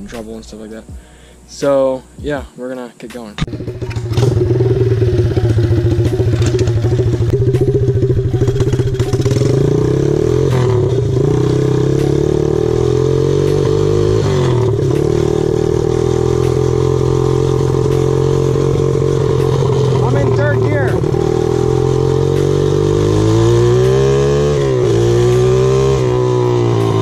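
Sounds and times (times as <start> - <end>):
loud motorbike engine accelerating: 3.4 - 27.0.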